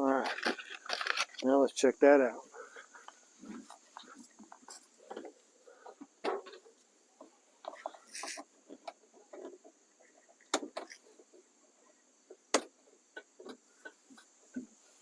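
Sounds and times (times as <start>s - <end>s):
light clicks and rustling: 0.1s - 1.6s, 2.6s - 14.8s.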